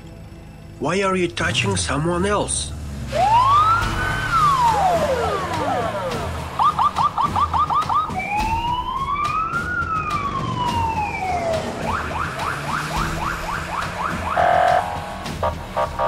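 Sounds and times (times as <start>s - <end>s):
police siren yelp and wail: 3.1s - 16.0s.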